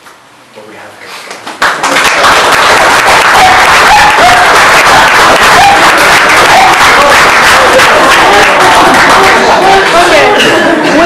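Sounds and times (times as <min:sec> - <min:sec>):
audience applauding: 0:01.4 - 0:10.4.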